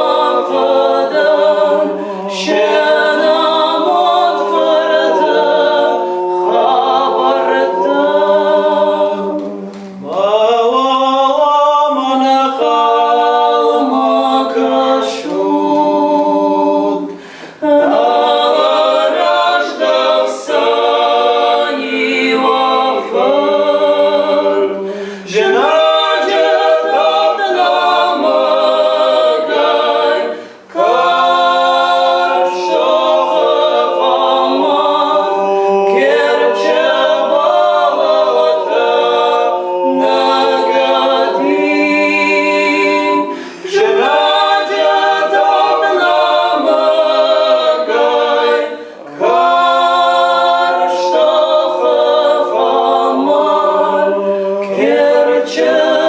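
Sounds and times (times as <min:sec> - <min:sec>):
people singing a cappella: 0:00.0 - 0:56.0.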